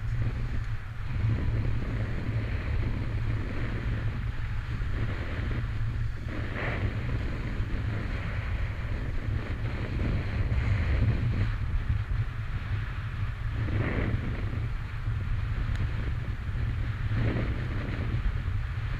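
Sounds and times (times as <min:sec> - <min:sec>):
skis scraping over snow: 0:00.0 - 0:18.9
wind buffeting microphone: 0:00.0 - 0:18.9.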